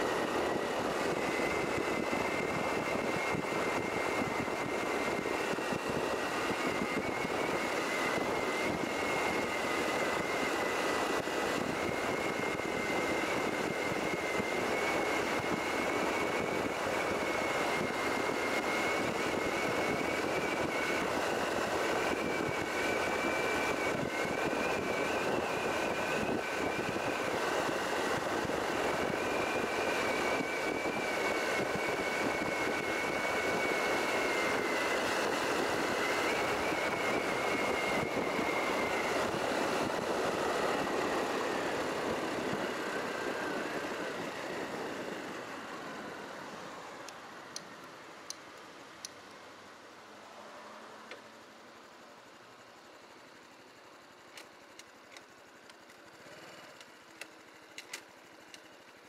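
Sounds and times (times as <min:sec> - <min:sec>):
wavering whine: 0:00.0 - 0:48.8
wind and road noise: 0:00.0 - 0:59.0.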